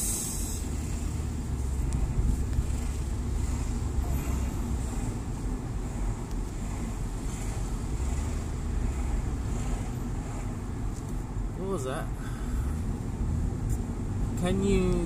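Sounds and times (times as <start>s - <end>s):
road noise low rumble: 0.0s - 15.0s.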